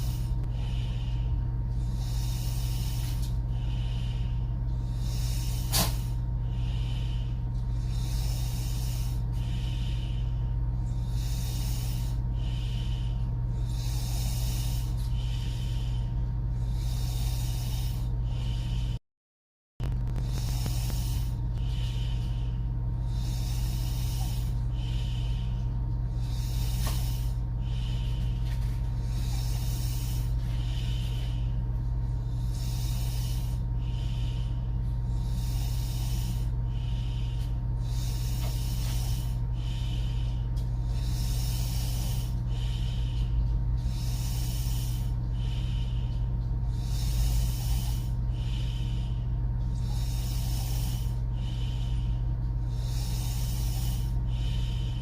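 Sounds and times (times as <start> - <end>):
low hum: 0.0 - 19.0, 19.8 - 55.0
woman snoring: 0.0 - 19.0, 19.8 - 55.0.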